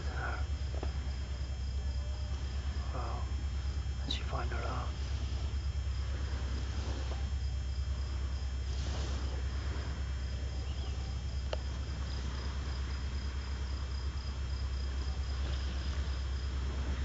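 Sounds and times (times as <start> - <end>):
crickets trilling: 0.0 - 17.0
low rumble: 0.0 - 17.0.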